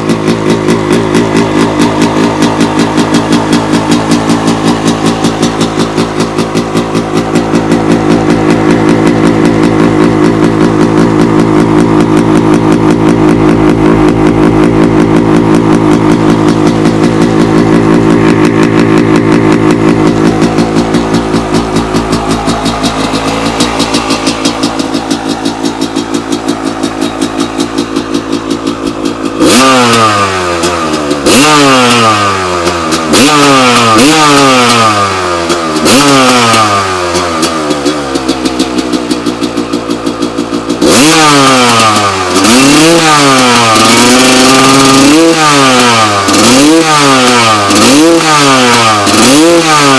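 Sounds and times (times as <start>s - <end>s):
motocross engine idling and revving: 0.0s - 49.9s.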